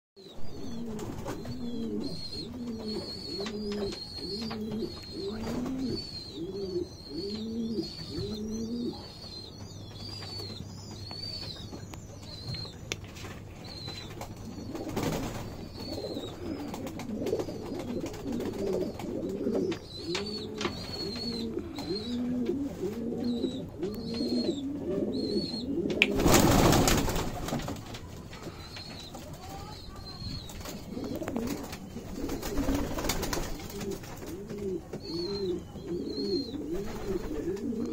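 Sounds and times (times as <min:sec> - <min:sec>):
pigeons cooing: 0:00.2 - 0:09.8, 0:13.6 - 0:37.9.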